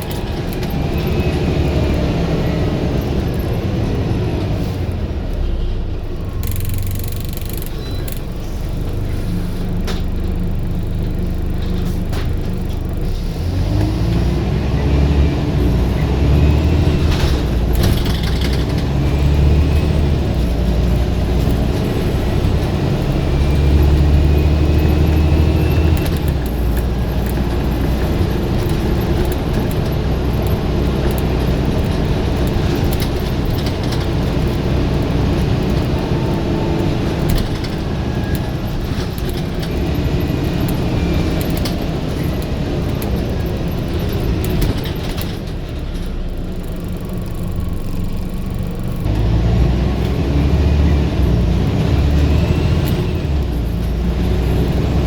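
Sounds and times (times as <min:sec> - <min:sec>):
bus engine accelerating: 0:00.0 - 0:55.0.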